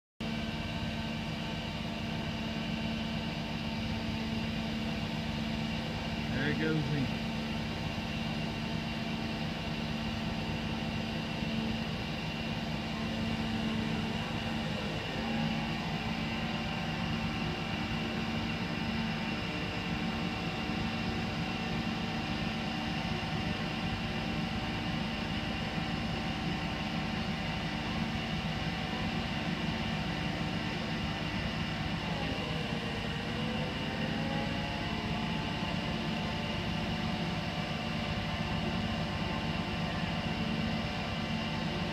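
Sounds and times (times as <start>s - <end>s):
crane engine droning hum: 0.2s - 41.9s.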